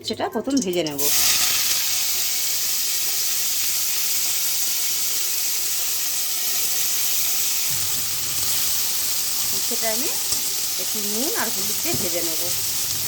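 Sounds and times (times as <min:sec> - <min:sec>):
vegetables sizzling in oil: 0:00.4 - 0:13.0.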